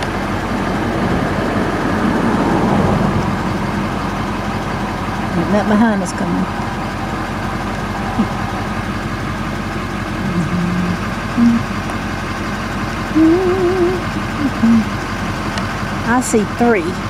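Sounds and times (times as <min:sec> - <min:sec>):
low wavering hums: 0:00.0 - 0:17.0
vehicle engine idling: 0:00.0 - 0:17.0.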